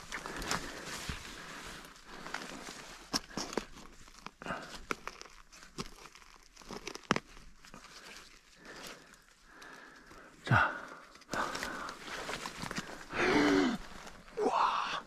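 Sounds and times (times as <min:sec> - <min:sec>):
pine needles crackling and rustling: 0:00.0 - 0:10.2, 0:10.8 - 0:15.0.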